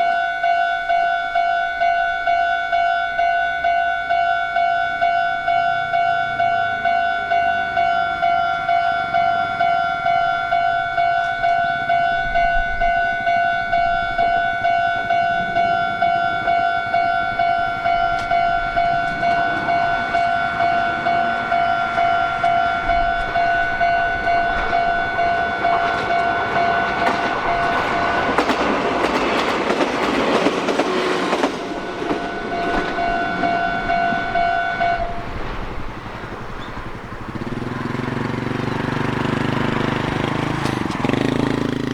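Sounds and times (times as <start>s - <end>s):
level crossing warning bell ringing: 0.0s - 35.2s, 36.9s - 41.9s
electric train passing: 0.0s - 41.9s.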